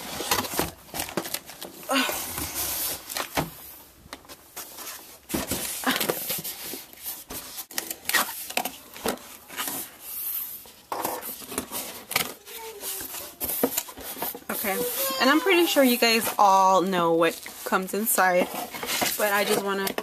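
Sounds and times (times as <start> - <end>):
cardboard and plastic film rustling: 0.0 - 20.0.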